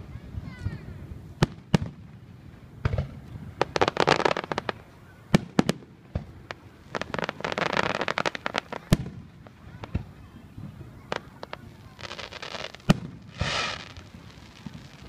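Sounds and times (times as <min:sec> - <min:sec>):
fireworks crackling pops: 0:00.0 - 0:15.0
fireworks bangs: 0:00.3 - 0:15.0.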